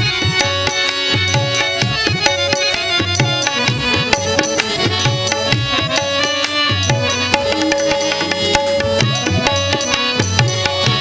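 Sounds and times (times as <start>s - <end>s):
drum rhythm: 0.0s - 11.0s
harmonium: 0.0s - 11.0s.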